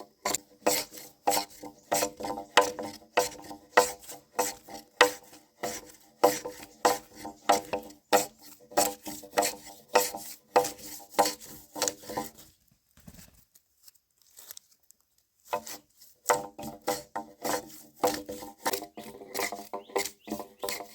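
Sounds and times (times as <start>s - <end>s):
hand tool rasping on wood: 0.0s - 12.4s, 15.4s - 20.9s.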